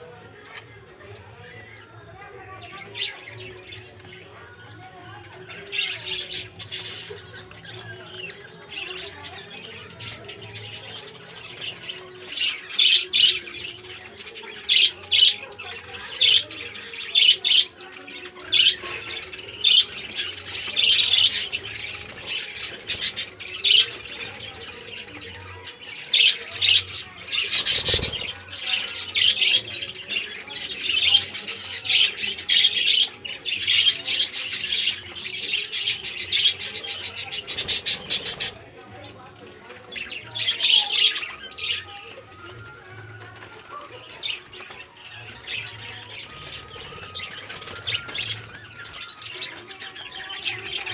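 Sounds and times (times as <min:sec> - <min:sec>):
lovebirds chirping and squawking: 0:00.0 - 0:50.9.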